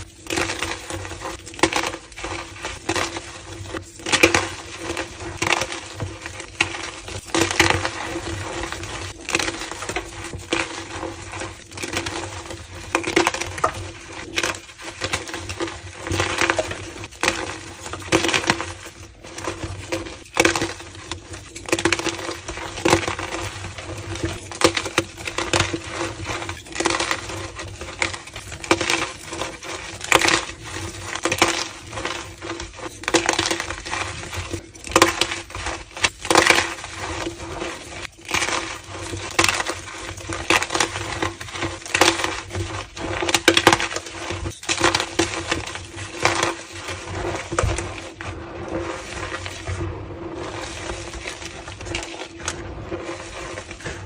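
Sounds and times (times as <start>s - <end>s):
chalk being crushed: 0.0s - 54.0s.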